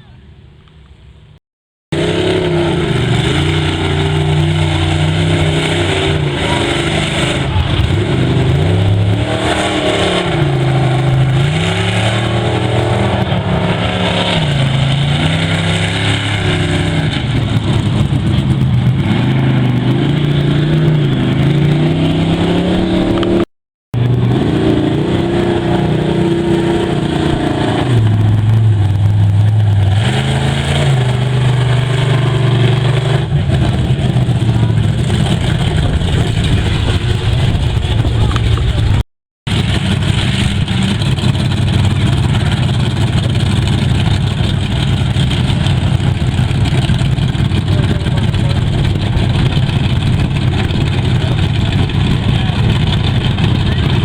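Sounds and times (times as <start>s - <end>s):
truck engine revving: 1.9s - 54.0s.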